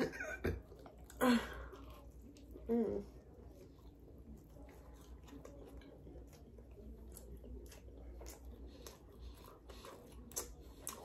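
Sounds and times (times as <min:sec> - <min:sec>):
mouth chewing food: 0:00.0 - 0:11.0.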